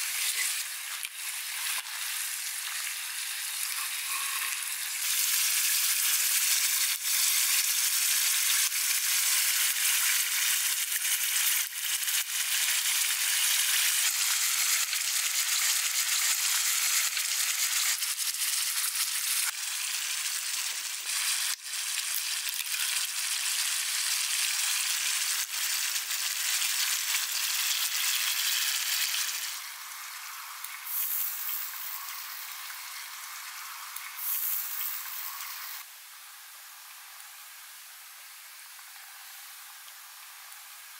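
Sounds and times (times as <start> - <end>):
food sizzling in oil in a pan: 0.0 - 40.9.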